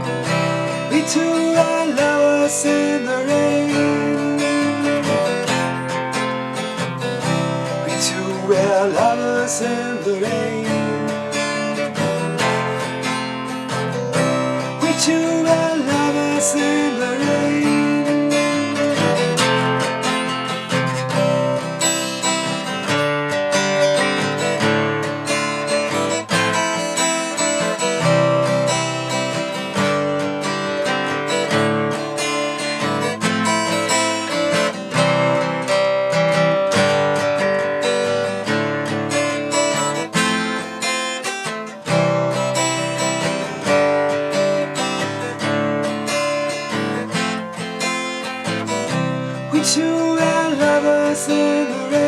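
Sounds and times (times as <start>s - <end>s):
strummed acoustic guitar music: 0.0s - 52.0s.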